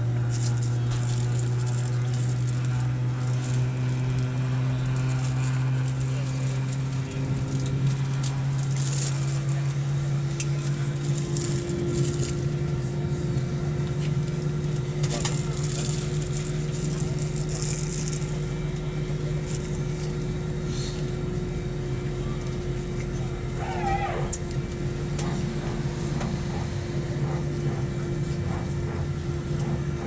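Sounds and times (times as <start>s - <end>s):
airliner engine hum: 0.0s - 30.0s.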